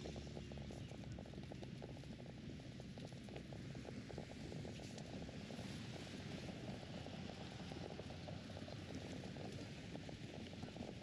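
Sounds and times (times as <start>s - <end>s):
dense low crackle: 0.0s - 11.0s.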